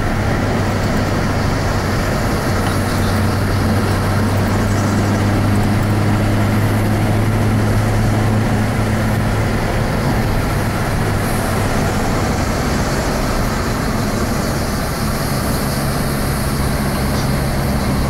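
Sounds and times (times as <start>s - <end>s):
car engine hum: 0.0s - 18.0s
road and wind noise: 0.0s - 18.0s.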